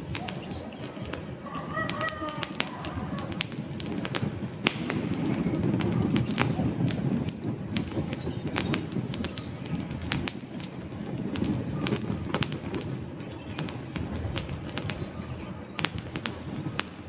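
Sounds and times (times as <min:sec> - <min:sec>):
burning logs snapping and popping: 0:00.0 - 0:17.0
campfire crackling: 0:00.0 - 0:17.0
low rumble of flames: 0:00.0 - 0:17.0.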